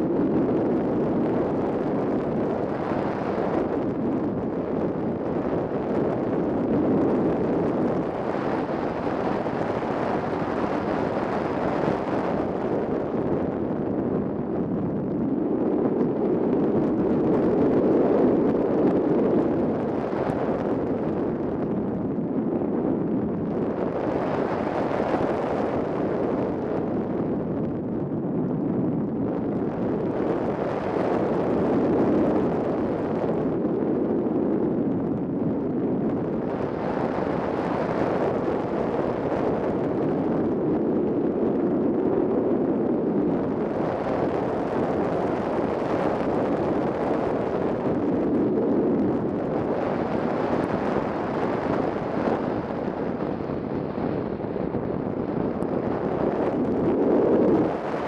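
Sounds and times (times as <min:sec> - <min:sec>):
wind rushing over camera: 0:00.0 - 0:58.0.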